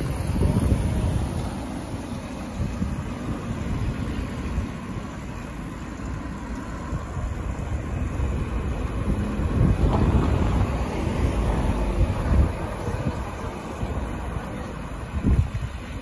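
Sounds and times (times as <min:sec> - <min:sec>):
street traffic: 0:00.0 - 0:16.0
wind rumbling on microphone: 0:00.0 - 0:16.0.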